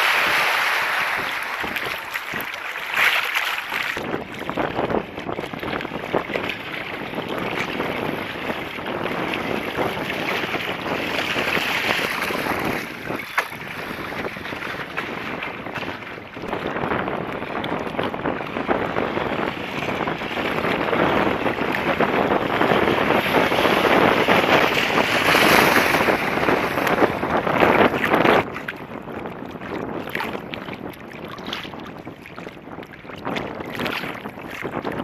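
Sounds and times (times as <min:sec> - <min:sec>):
water rushing and splashing: 0:00.0 - 0:35.0
wind buffeting microphone: 0:00.0 - 0:35.0.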